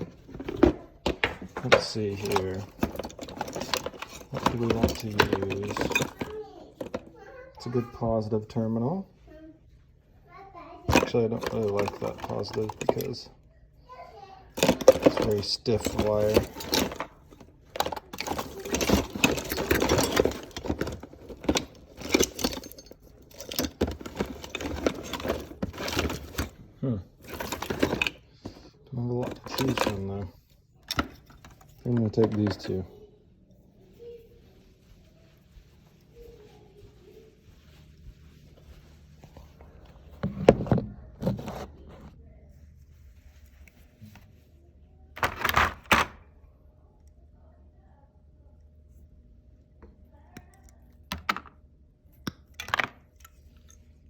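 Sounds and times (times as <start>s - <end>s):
rummaging through wires and metal parts: 0.0s - 9.1s, 10.8s - 13.4s, 14.5s - 44.5s, 45.1s - 46.4s, 49.8s - 54.0s
objects clattering and scraping: 0.0s - 9.3s, 10.8s - 13.4s, 14.4s - 44.5s, 45.1s - 46.4s, 49.8s - 51.6s, 52.2s - 54.0s.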